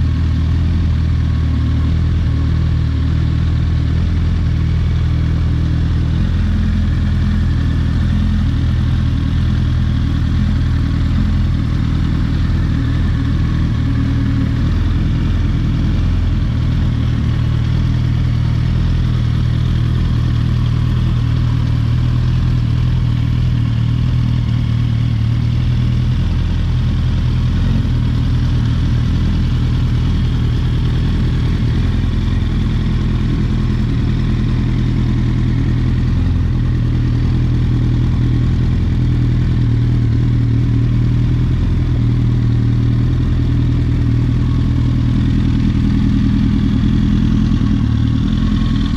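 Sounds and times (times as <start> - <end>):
engine idling: 0.0 - 48.9.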